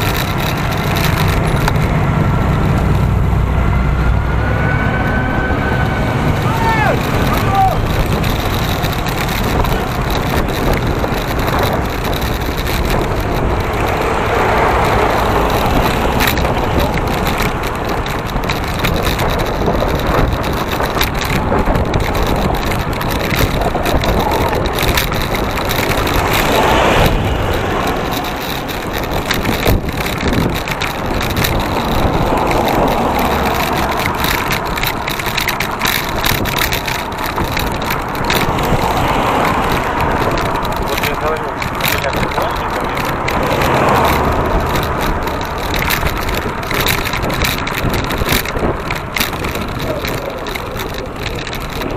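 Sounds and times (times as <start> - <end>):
vehicle road and engine noise: 0.0 - 51.9
wind rush on microphone: 0.0 - 51.9.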